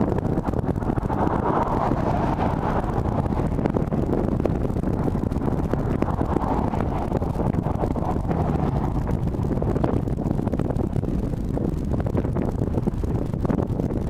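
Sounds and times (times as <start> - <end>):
car road and tyre noise: 0.0 - 14.0
wind buffeting microphone: 0.0 - 14.0.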